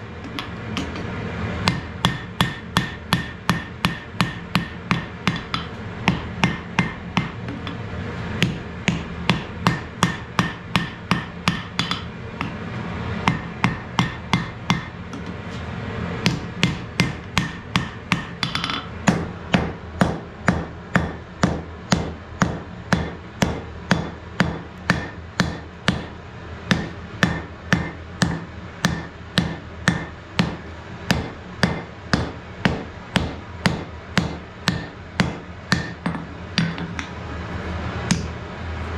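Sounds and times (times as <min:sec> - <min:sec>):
hammer striking hot metal on anvil: 0:00.3 - 0:07.8, 0:08.4 - 0:12.6, 0:13.2 - 0:15.3, 0:16.2 - 0:37.1.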